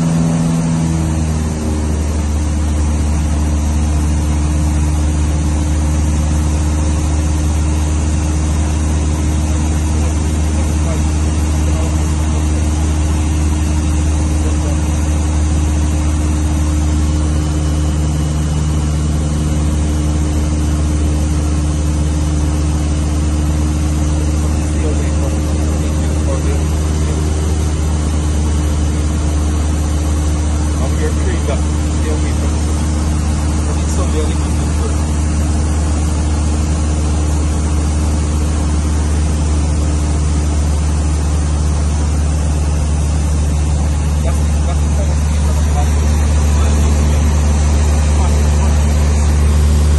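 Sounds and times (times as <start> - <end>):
airplane engine drone in cockpit: 0.0 - 49.9.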